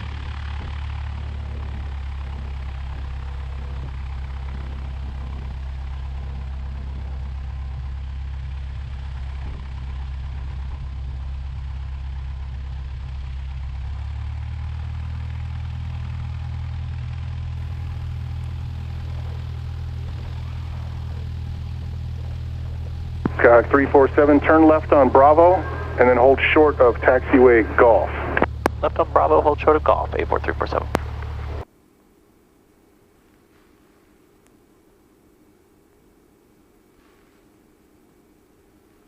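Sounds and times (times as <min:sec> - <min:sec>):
aircraft engine droning: 0:00.0 - 0:39.0.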